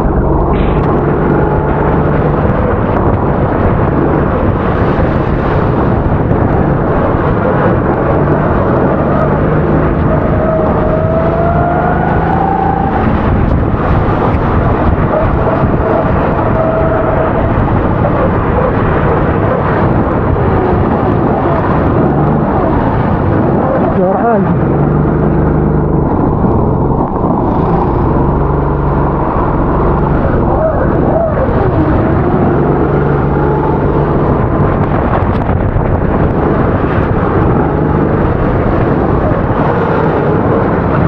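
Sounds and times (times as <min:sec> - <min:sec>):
kart engine revving: 0:00.0 - 0:41.0.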